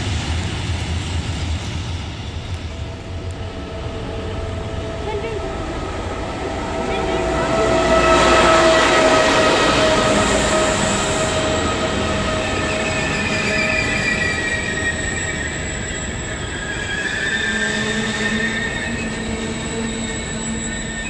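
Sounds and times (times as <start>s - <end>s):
train rumble: 0.0s - 21.0s
train wheels squealing: 0.0s - 21.0s.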